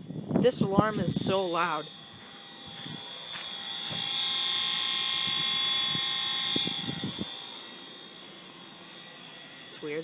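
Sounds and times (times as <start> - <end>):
fire alarm horns: 0.0 - 10.0.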